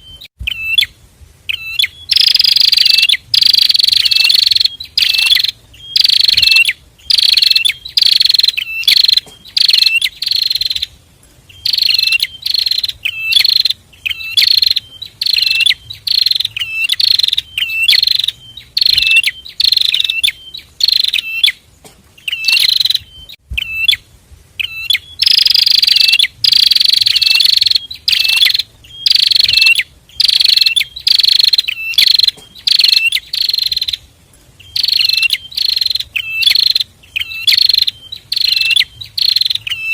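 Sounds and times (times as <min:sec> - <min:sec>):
birds singing buzzy high notes: 0:00.0 - 0:39.9.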